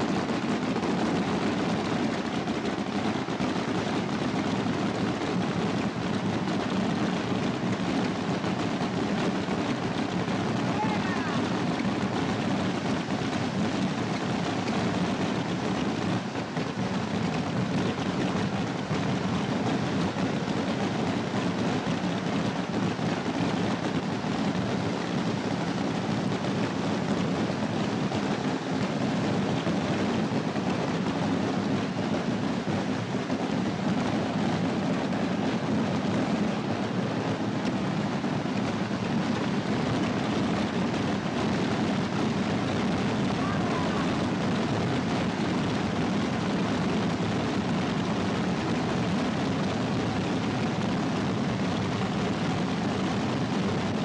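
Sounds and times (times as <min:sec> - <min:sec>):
rockets crackling barrage: 0:00.0 - 0:54.0.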